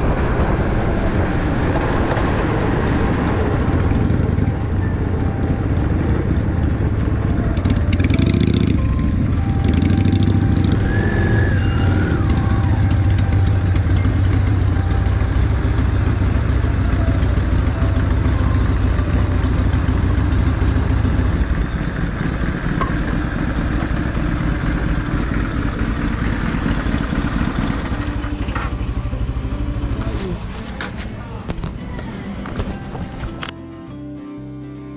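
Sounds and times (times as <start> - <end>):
motorcycle engine running: 0.0 - 33.6.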